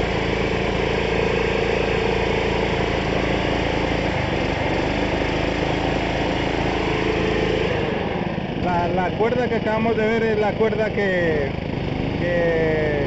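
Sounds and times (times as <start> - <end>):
small pump engine running: 0.0 - 13.0.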